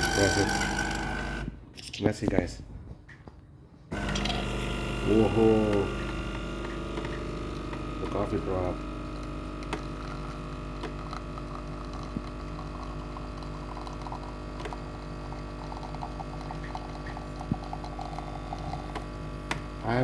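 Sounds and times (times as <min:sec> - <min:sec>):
coffee machine pump humming: 0:00.0 - 0:01.6, 0:03.9 - 0:20.0.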